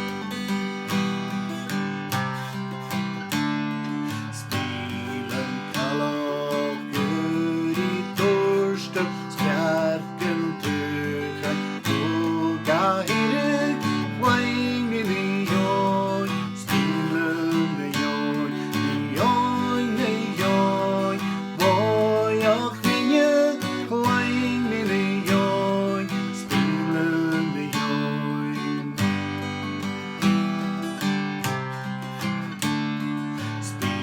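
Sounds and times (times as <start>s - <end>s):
person singing folk song: 0.0s - 34.0s
strummed acoustic guitar: 0.0s - 34.0s.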